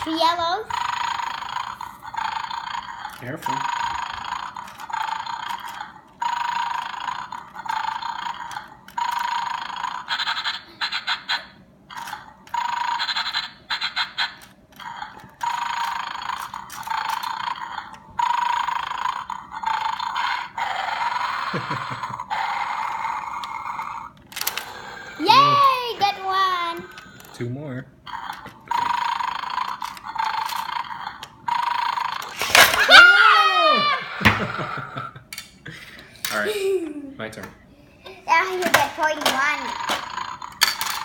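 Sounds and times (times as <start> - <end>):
toy sound effect from small speaker: 0.0 - 27.4, 28.1 - 34.1, 38.3 - 41.0.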